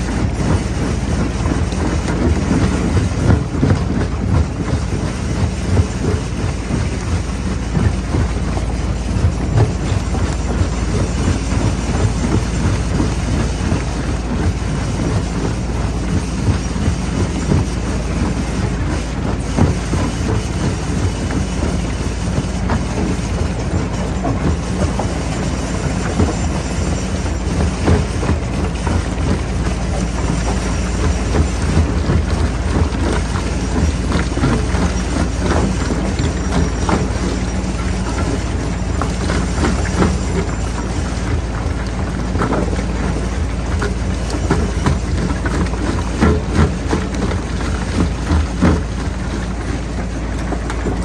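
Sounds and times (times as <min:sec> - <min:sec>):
crusher machine drone: 0:00.0 - 0:51.0.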